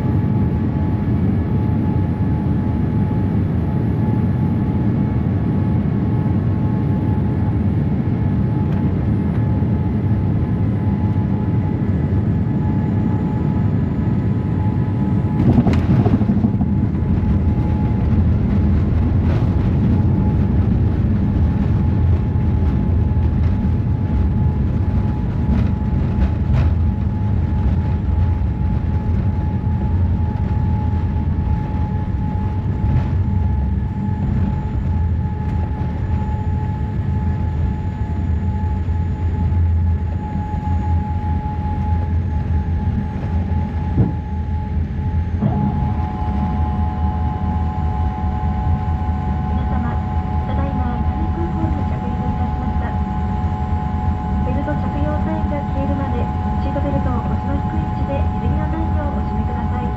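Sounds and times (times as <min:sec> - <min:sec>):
airliner cabin rumble: 0:00.0 - 0:59.9
faint constant whine: 0:00.0 - 0:59.9.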